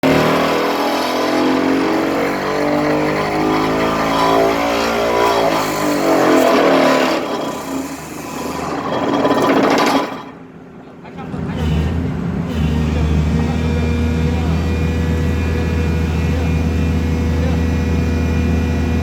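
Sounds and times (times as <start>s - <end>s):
pile driver engine running: 0.0s - 19.0s.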